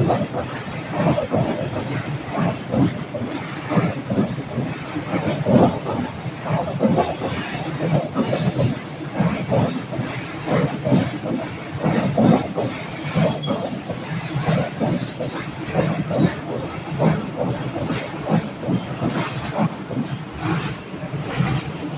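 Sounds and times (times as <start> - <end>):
train rumble: 0.0 - 21.9.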